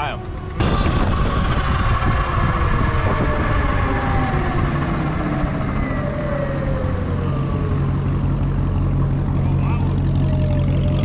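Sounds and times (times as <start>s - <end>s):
heavy low rumble: 0.0s - 11.0s.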